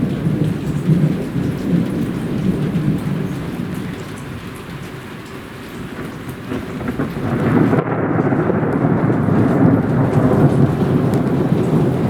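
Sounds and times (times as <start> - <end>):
heavy rain: 0.0 - 12.0
thunder rumbling: 0.0 - 12.0.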